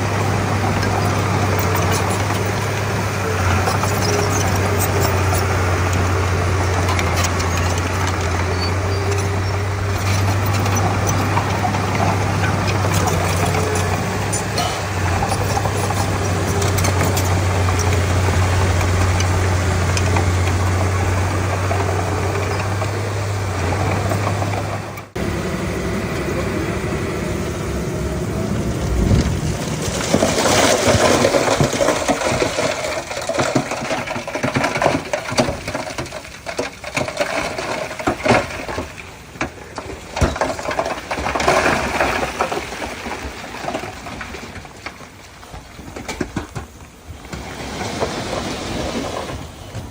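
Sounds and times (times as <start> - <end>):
metal clanks and rattles: 0.0 - 25.2, 28.7 - 47.4
bulldozer diesel engine running: 0.0 - 49.9.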